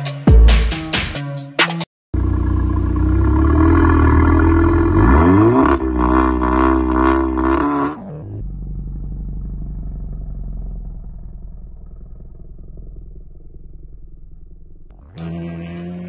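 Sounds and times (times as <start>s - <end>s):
car engine revving: 2.2s - 16.0s.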